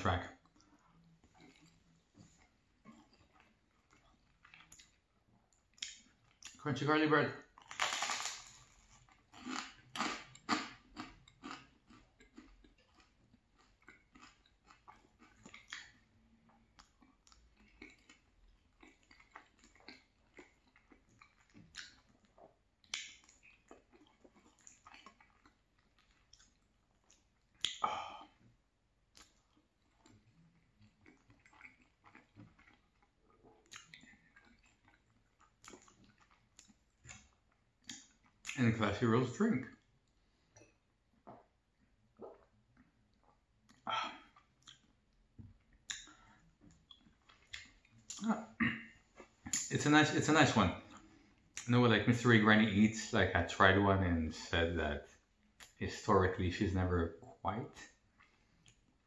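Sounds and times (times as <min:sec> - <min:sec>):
chewing crunchy bread: 0:00.2 - 0:06.6, 0:07.4 - 0:38.7, 0:39.5 - 0:49.7, 0:50.6 - 0:51.8, 0:57.8 - 0:59.0.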